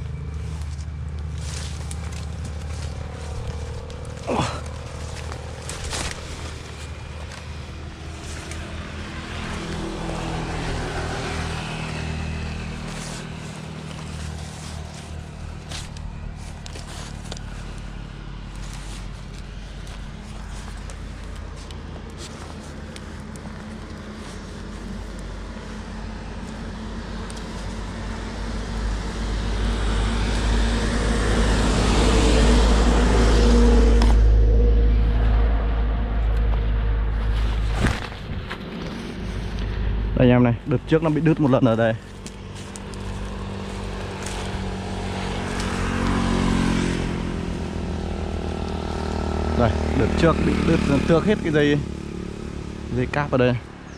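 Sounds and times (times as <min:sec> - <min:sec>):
car engine and tyre noise: 0:00.0 - 0:53.9.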